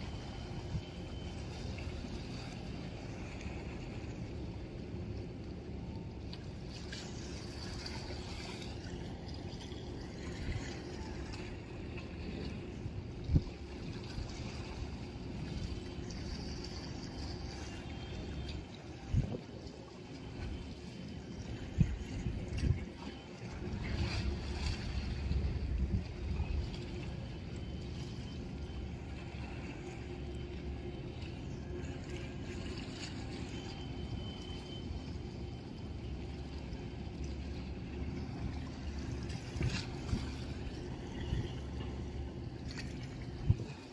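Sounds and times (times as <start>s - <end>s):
water rumbling: 0.0s - 43.9s
wind: 0.0s - 43.9s.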